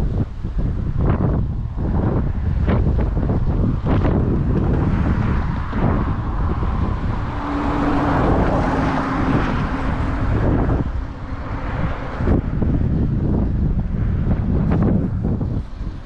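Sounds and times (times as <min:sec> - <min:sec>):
engine drone: 0:00.0 - 0:16.0
wind buffeting microphone: 0:00.0 - 0:16.0.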